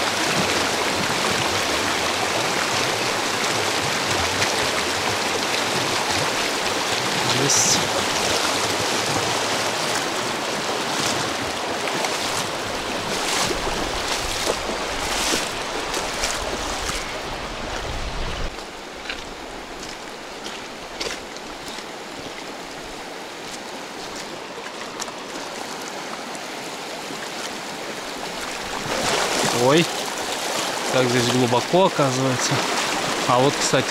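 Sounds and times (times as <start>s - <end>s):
river rushing: 0.0s - 33.9s.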